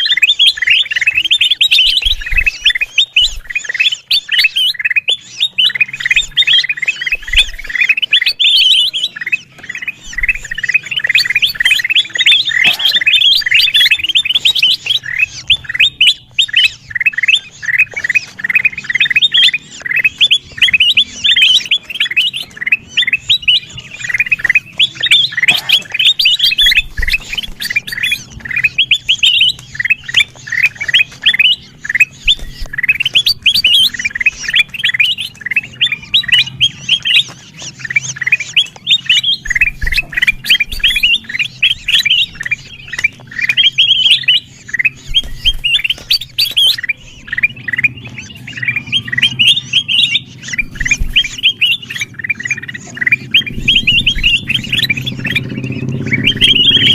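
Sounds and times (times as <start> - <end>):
birds chattering: 0.0 - 56.9.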